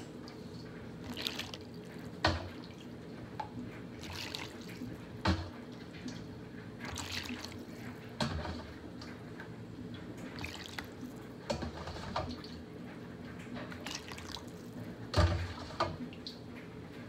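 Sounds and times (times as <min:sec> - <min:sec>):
liquid dripping and splashing: 0:00.1 - 0:16.8.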